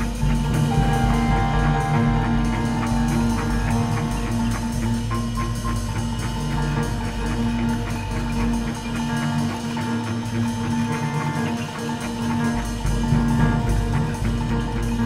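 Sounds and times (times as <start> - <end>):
double bass: 0.0 - 15.0
light busy drums: 0.0 - 15.0.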